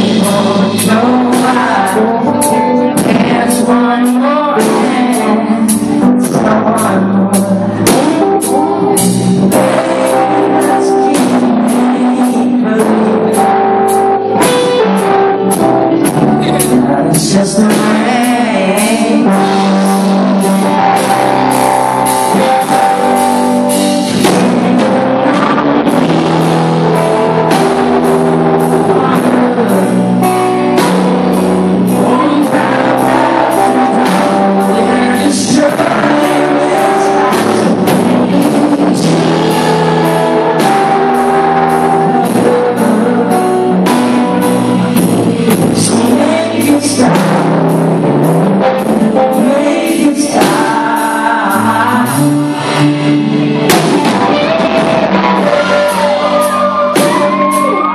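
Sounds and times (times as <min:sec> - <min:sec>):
drum kit beat: 0:00.0 - 0:57.9
electric guitar: 0:00.0 - 0:57.9
man singing: 0:00.0 - 0:57.9.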